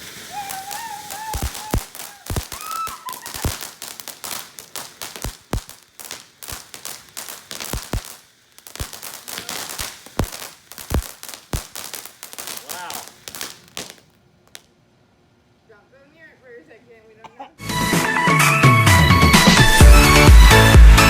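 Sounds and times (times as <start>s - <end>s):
fireworks popping and crackling: 0.0s - 14.8s, 17.7s - 21.0s.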